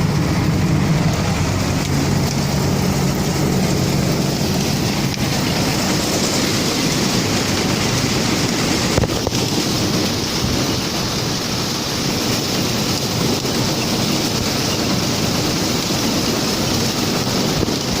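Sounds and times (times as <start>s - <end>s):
tractor engine under load: 0.0s - 18.0s.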